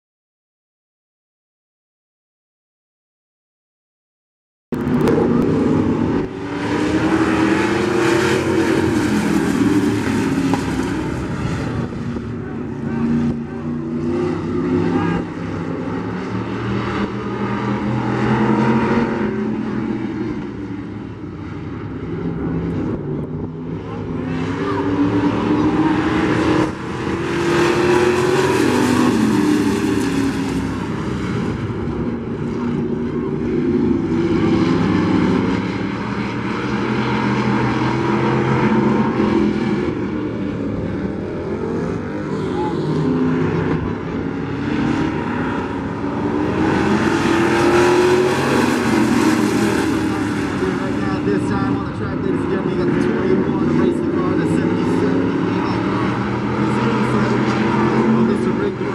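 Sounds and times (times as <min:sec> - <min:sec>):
racing truck engines: 0:04.8 - 0:58.9.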